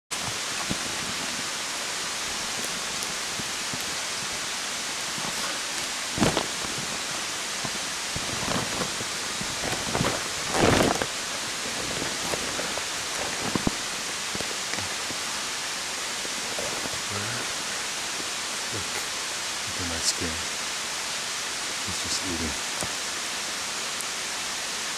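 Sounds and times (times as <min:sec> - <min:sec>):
outdoor rushing hiss: 0:00.1 - 0:24.9.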